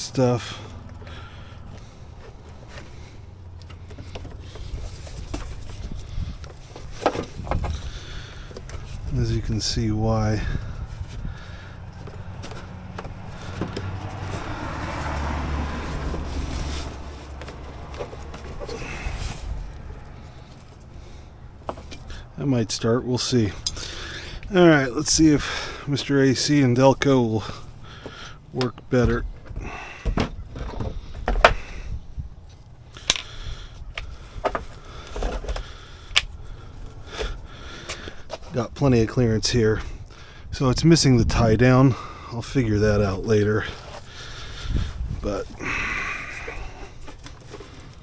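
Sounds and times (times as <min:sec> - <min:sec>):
vehicle rumbling by: 0:00.0 - 0:48.0.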